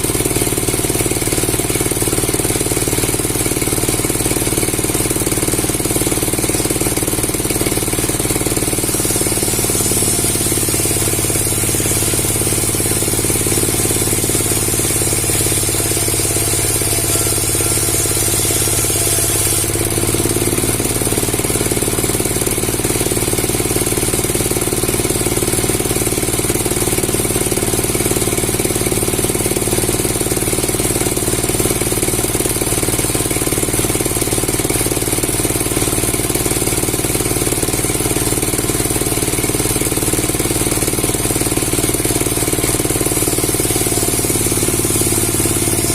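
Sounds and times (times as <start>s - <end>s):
woodworking machinery running: 0.0s - 45.9s.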